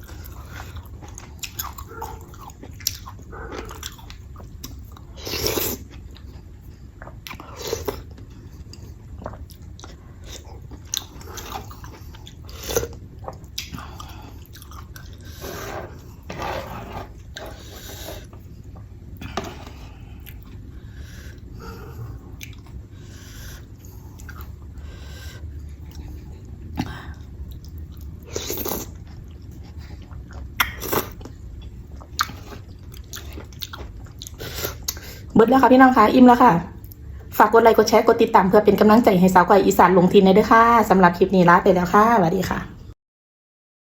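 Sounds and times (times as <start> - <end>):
person chewing food: 0.0 - 35.3.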